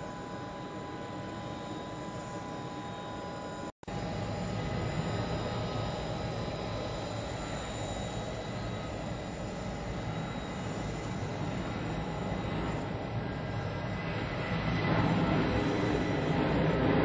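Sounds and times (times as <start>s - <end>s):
faint high whine: 0.0s - 17.0s
jet engines rumbling: 0.0s - 17.0s.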